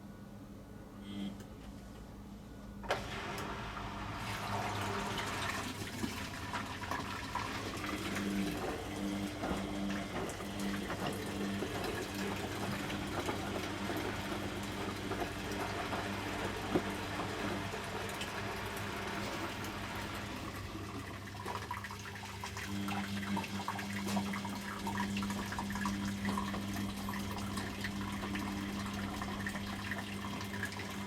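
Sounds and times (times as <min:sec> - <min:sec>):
water rushing into machine: 0:02.9 - 0:31.0.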